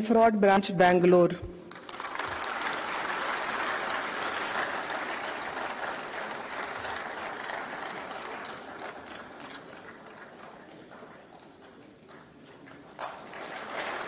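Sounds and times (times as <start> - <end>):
audience applauding: 1.7 - 14.0.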